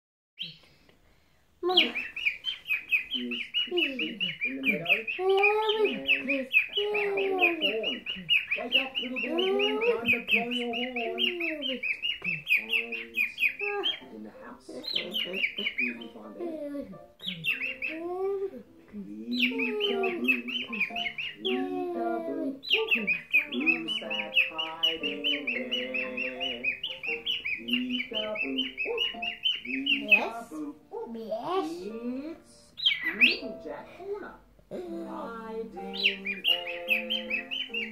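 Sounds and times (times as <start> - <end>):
cockatiel chirping: 1.7 - 18.4, 19.3 - 30.5, 32.8 - 33.6, 35.8 - 37.9
lower tune of held notes: 3.2 - 37.9.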